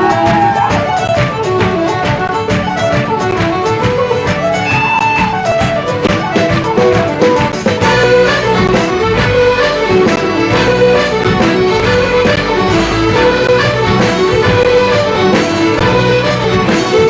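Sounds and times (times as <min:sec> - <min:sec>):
fiddle dance music: 0:00.0 - 0:17.0.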